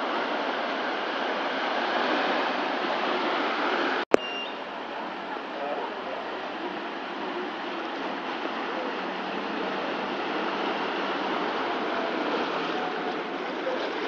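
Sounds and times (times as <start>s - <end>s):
floodwater rushing and splashing: 0.0s - 14.0s.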